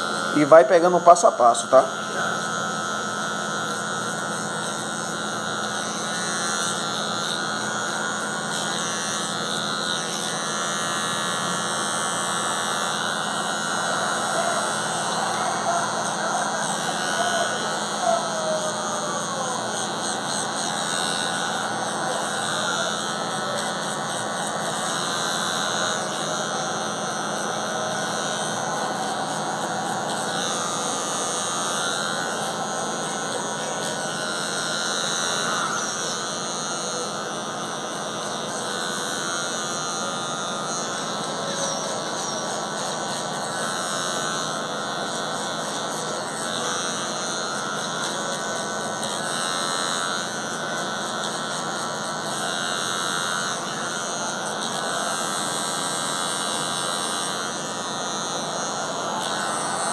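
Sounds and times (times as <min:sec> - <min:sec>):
electric hair clipper humming: 0:00.0 - 0:59.9.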